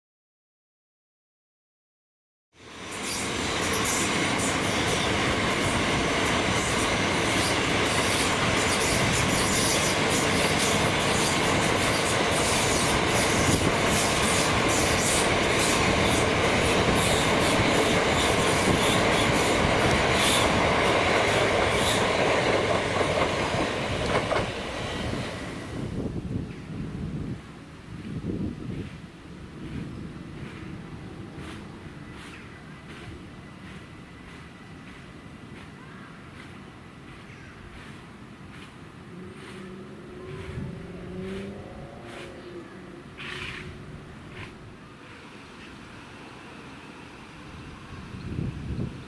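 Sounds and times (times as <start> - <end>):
train wheels rumbling: 2.6 - 27.4, 28.0 - 49.0.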